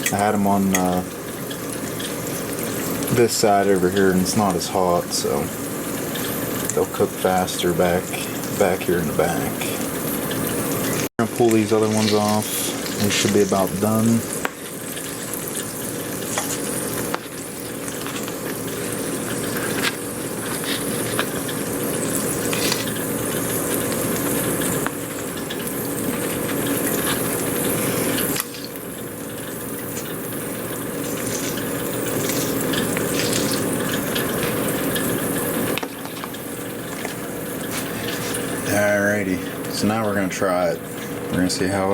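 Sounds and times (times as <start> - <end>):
meat sizzling in a pan: 0.0 - 41.9.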